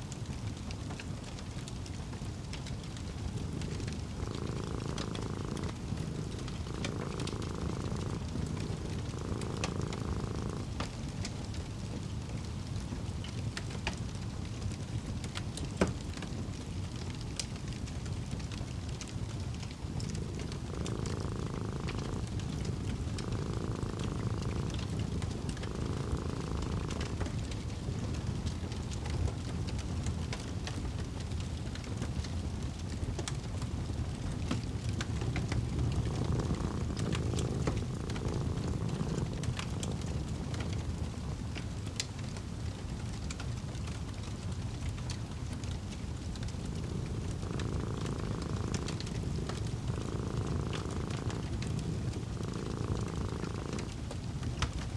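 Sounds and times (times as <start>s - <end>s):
cat purring: 0.0s - 54.9s
wood fire crackling: 0.1s - 54.9s.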